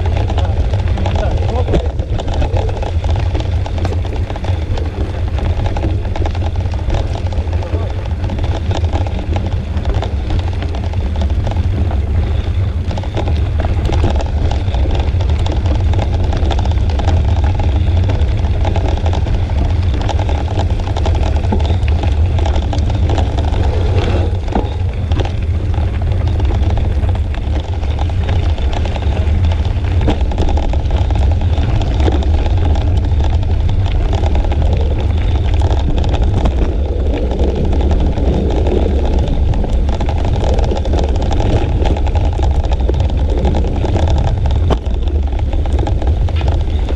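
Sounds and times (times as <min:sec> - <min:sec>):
road noise: 0:00.0 - 0:46.9
wind buffeting microphone: 0:00.0 - 0:46.9.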